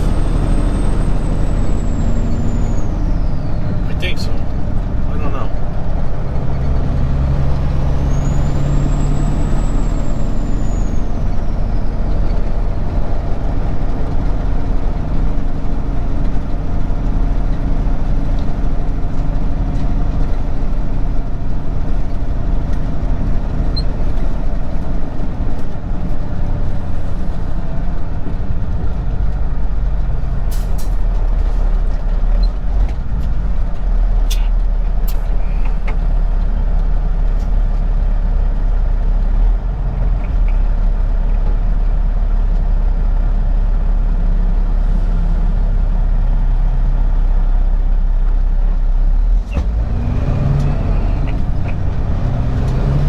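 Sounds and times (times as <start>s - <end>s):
diesel truck engine running: 0.0s - 53.0s
road noise: 0.0s - 53.0s.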